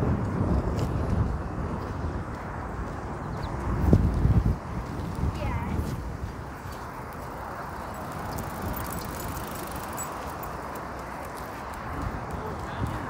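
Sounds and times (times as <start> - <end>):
cars going by: 0.0 - 13.0.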